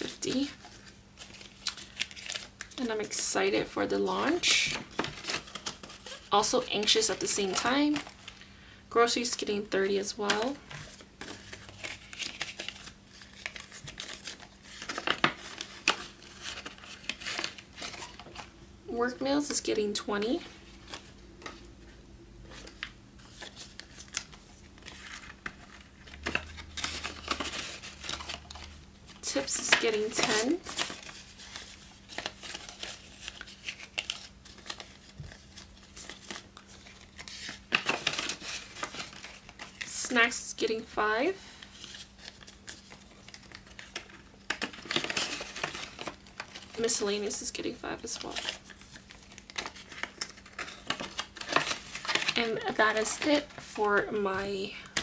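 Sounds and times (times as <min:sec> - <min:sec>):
banknotes rustling and flicking: 0:00.0 - 0:55.0.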